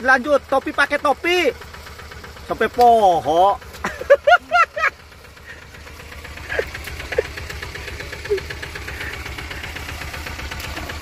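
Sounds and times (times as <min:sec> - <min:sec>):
diesel tractor engine knocking: 0:00.0 - 0:11.0.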